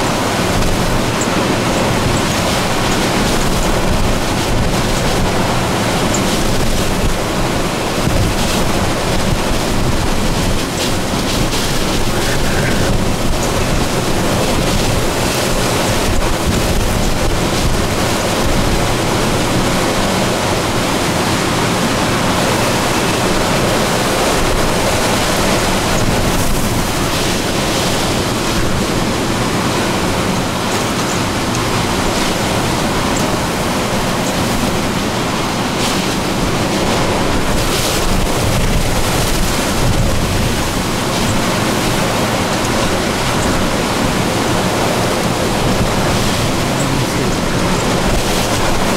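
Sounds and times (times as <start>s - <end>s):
wind and rain rushing: 0.0s - 48.9s
wind hitting microphone: 0.0s - 48.9s.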